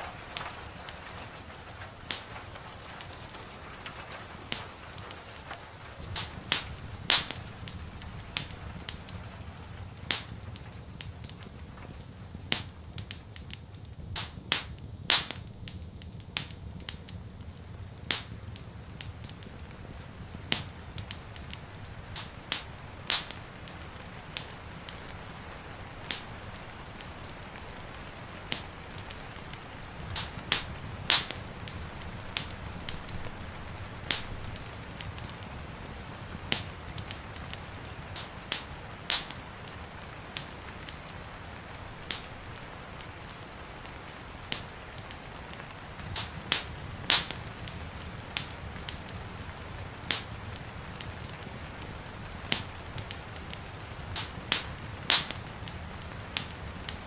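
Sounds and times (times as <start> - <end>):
rain hissing: 0.0 - 57.0
wood fire crackling: 0.0 - 57.0.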